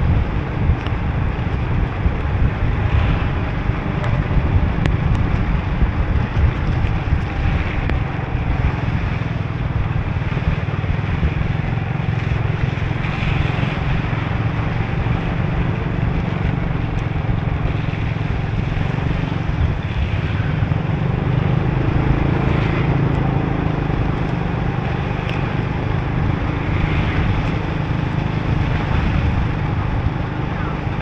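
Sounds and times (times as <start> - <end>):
motorbike engine hum: 0.0 - 31.0
wind on microphone: 0.0 - 31.0.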